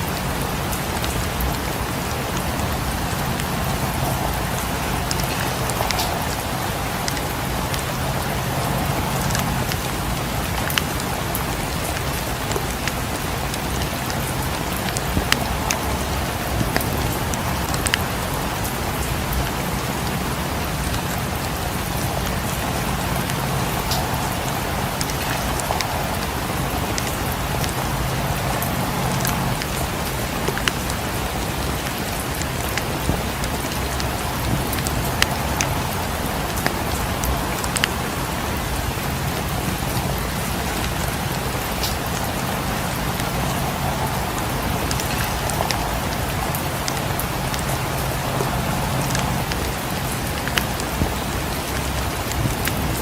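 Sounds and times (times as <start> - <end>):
raindrops ticking: 0.0 - 53.0
steady rain falling: 0.0 - 53.0.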